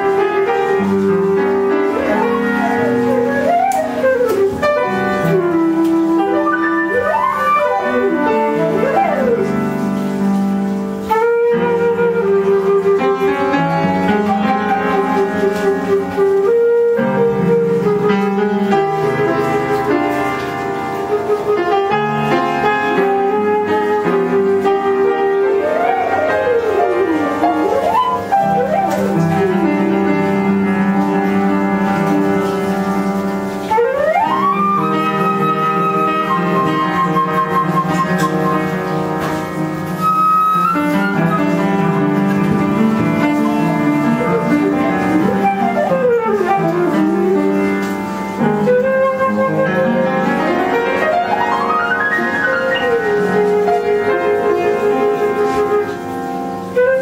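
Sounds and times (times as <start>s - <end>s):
flute playing jazz lead: 0.0s - 57.0s
piano chords: 0.0s - 57.0s.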